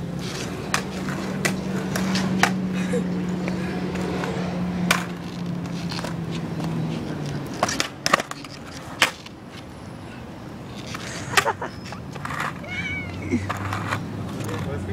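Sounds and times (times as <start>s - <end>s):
skateboard wheels rolling on concrete: 0.0s - 14.9s
skateboard clacking on concrete: 0.2s - 9.7s, 10.6s - 14.8s.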